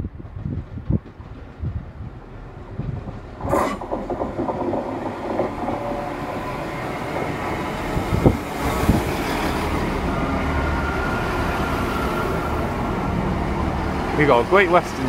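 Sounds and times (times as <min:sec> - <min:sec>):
train engine and wheel rumble: 0:00.0 - 0:15.0
wheels clacking on rails: 0:00.0 - 0:15.0.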